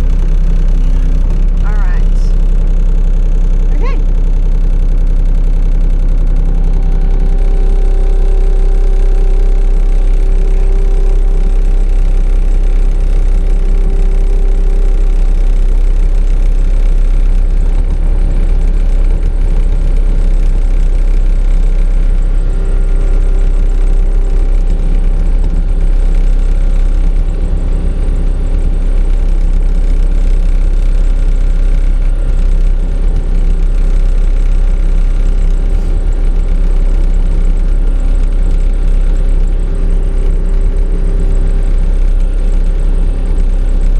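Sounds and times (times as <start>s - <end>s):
diesel engine running at low revs: 0.0s - 43.9s
high whine: 0.0s - 43.9s.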